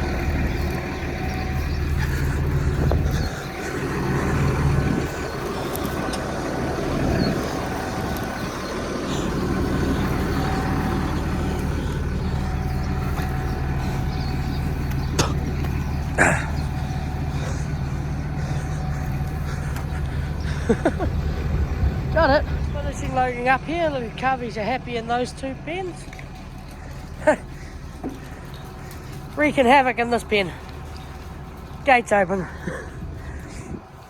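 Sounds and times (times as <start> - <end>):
tractor engine idling: 0.0 - 34.0.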